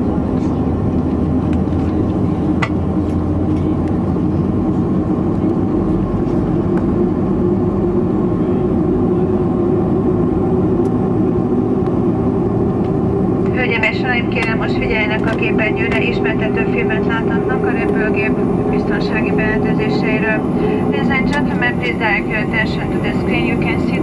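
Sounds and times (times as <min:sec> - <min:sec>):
airplane cabin engine hum: 0:00.0 - 0:24.0.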